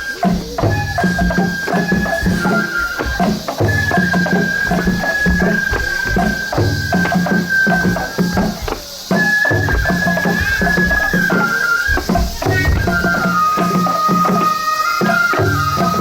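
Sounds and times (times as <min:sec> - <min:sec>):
bamboo flute long notes: 0:00.0 - 0:16.0
quick steady drumming: 0:00.0 - 0:16.0.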